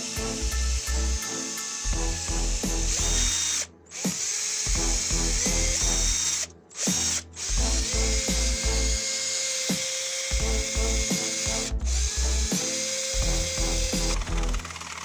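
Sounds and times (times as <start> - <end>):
cordless drill spinning: 0.0 - 15.0.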